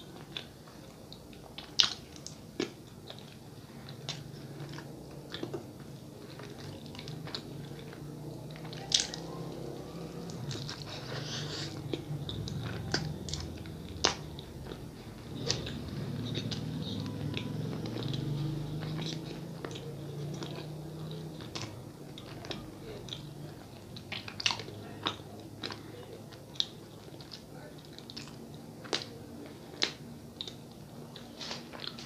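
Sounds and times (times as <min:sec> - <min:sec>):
close-miked chewing: 0:00.0 - 0:32.0.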